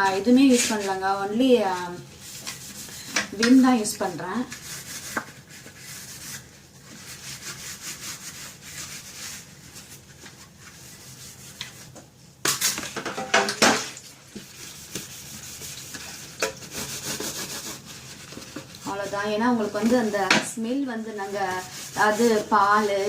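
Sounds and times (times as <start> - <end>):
scrubbing by hand: 0.3 - 12.0, 14.0 - 23.0.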